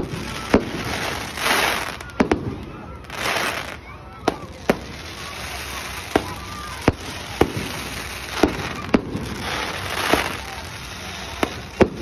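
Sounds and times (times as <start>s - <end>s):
fireworks bangs: 0.0s - 12.0s
hissing crackle: 0.0s - 12.0s.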